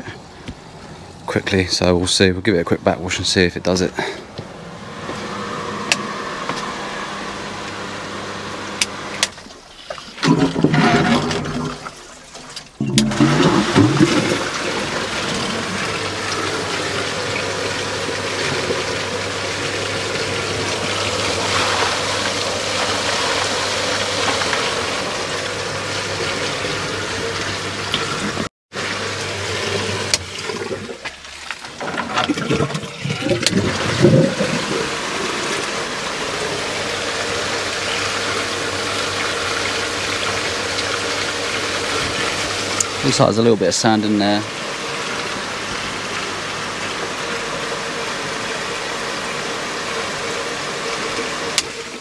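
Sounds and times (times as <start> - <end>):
low pump hum: 2.8 - 52.0
water rushing through pipes: 4.6 - 52.0.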